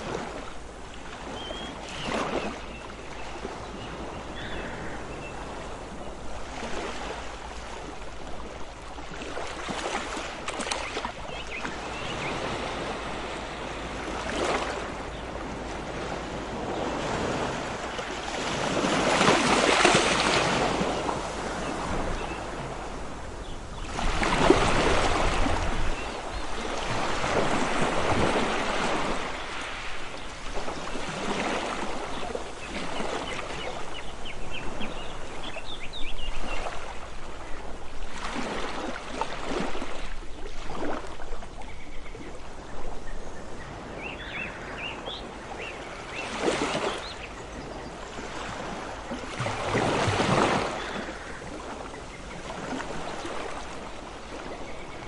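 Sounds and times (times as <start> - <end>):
ocean waves breaking: 0.0 - 35.6, 36.4 - 43.1, 43.7 - 55.0.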